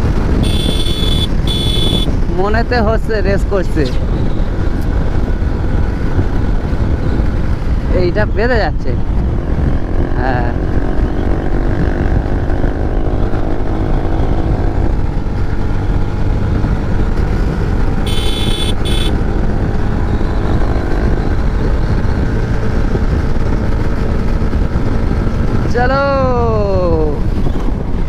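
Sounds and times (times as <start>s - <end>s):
motorcycle engine drone: 0.0s - 28.0s
road and wind rush: 0.0s - 28.0s.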